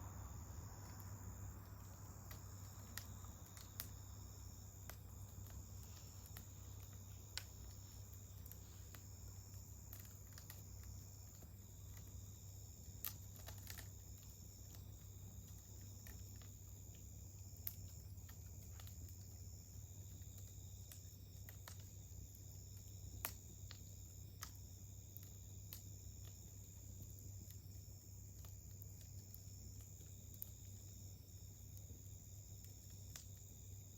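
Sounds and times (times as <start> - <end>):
campfire popping and crackling: 0.0 - 33.9
insects trilling: 0.0 - 33.9.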